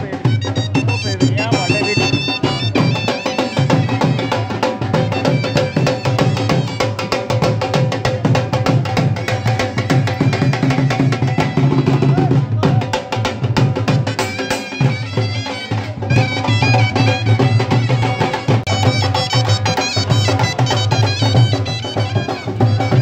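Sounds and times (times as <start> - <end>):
music with fast dense drumming: 0.0 - 23.0.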